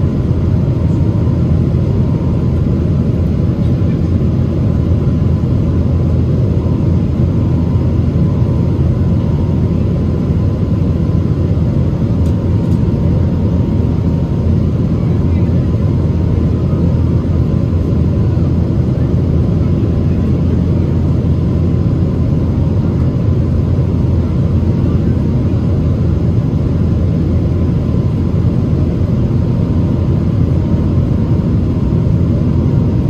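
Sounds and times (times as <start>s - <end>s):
jet engine cabin roar: 0.0s - 33.0s.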